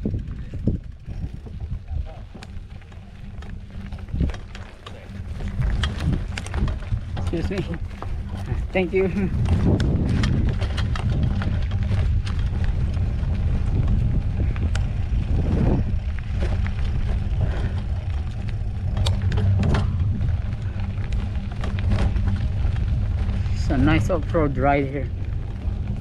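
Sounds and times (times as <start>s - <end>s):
mountain bike on dirt trail: 0.0s - 26.0s.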